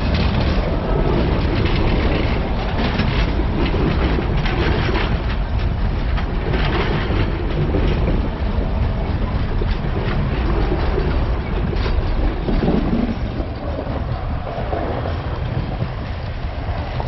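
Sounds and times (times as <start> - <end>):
train wheels rumbling on rails: 0.0 - 17.0
wheels clacking over rail joints: 0.0 - 17.0.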